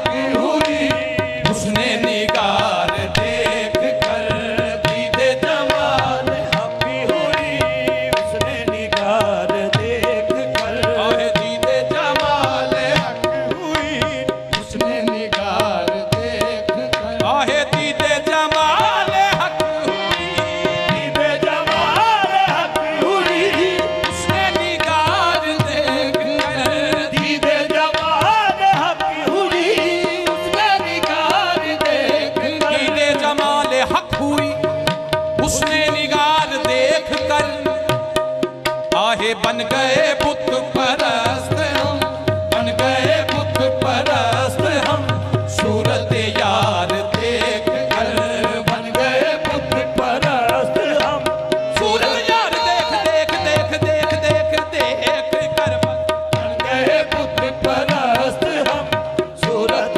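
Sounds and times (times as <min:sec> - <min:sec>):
people singing: 0:00.0 - 0:38.0, 0:38.6 - 0:59.9
harmoniums playing: 0:00.0 - 0:59.9
tabla drumming: 0:00.0 - 0:59.9.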